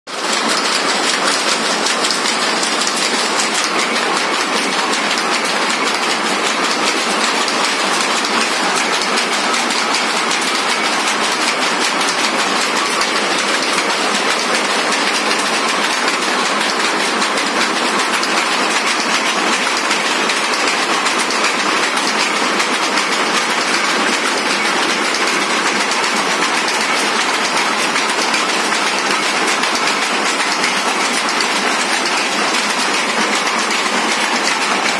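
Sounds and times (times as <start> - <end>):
power looms clattering: 0.1 - 34.9.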